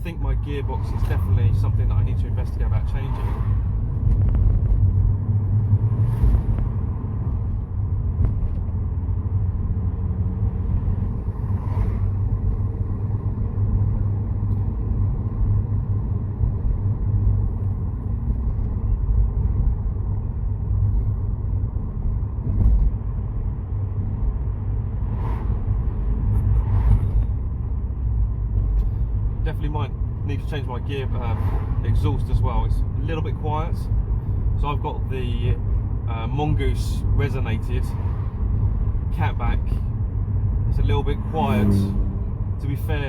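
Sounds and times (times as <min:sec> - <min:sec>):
car engine drone from inside: 0:00.0 - 0:43.0.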